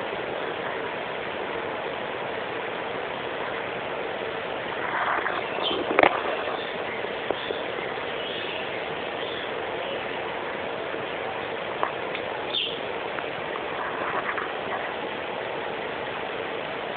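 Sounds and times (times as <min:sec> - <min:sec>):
steady rushing noise: 0:00.0 - 0:16.9.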